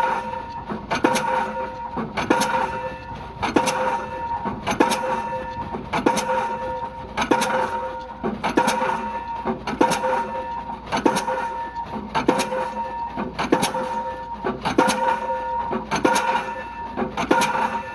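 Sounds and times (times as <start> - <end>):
steady machine hum: 0.0 - 17.9.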